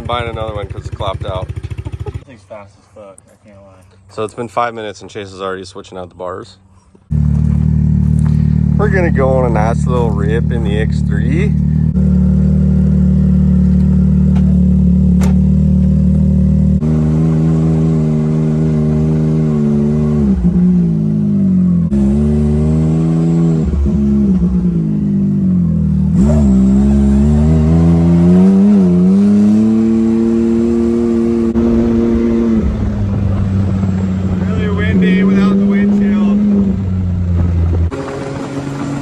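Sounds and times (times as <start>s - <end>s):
engine revving hard: 7.1s - 39.0s.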